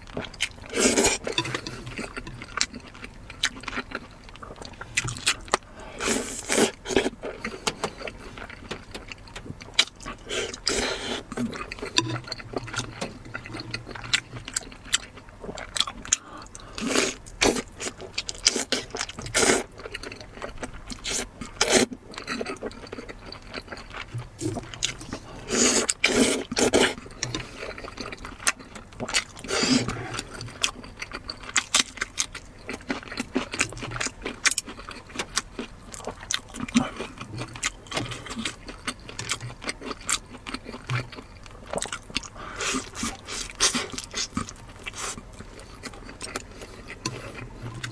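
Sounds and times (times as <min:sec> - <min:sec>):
wet chewing and biting: 0:00.1 - 0:05.7, 0:06.4 - 0:47.9.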